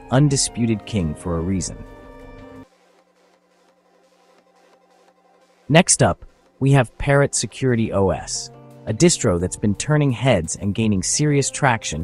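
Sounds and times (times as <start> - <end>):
background music of held tones: 0.0 - 12.0.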